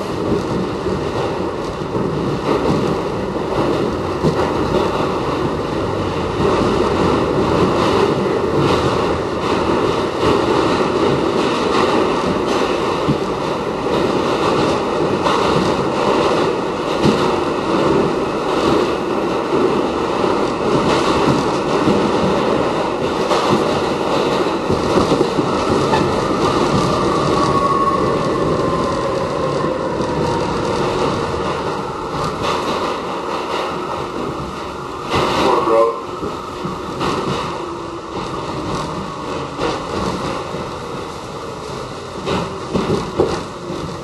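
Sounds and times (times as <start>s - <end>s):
rail joint clicks: 0.0s - 44.0s
subway wheels rumbling on rail: 0.0s - 44.0s.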